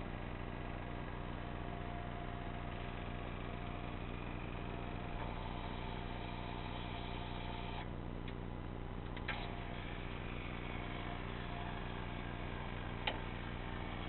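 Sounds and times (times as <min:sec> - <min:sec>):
gate motor hum and whine: 0:00.0 - 0:14.0.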